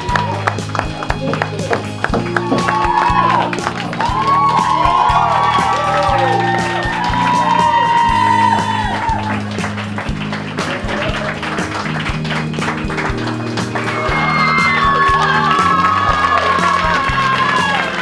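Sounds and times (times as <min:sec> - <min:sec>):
audience clapping: 0:00.0 - 0:18.0
background music: 0:00.0 - 0:18.0.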